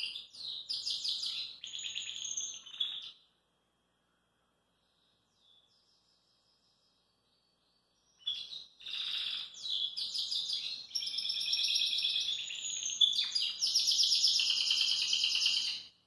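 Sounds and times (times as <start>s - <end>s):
canary singing trills: 0.0s - 3.2s, 5.3s - 16.0s.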